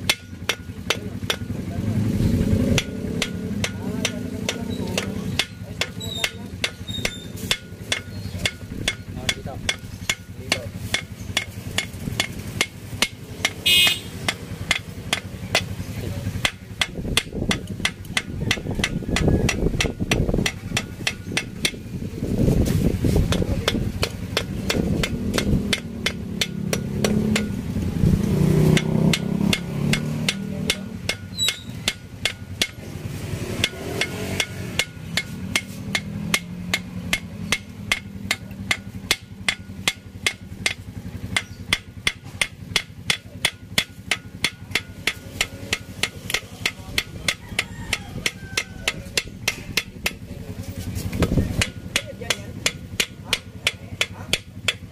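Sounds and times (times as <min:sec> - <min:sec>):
hammer tapping on metal: 0:00.0 - 0:01.7, 0:02.3 - 0:22.2, 0:23.0 - 0:54.9.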